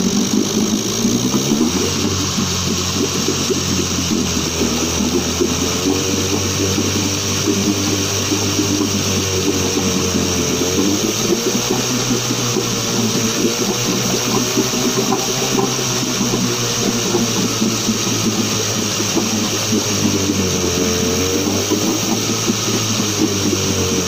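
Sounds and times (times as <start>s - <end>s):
outboard motor running: 0.0s - 24.0s
water churning: 0.0s - 24.0s.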